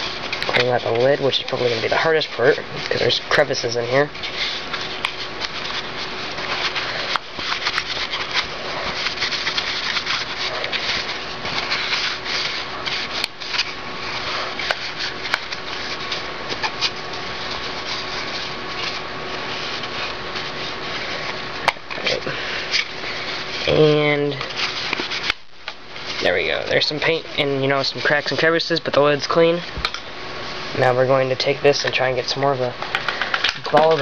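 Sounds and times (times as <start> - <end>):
paper towel scrubbing plastic: 0.0 - 29.8.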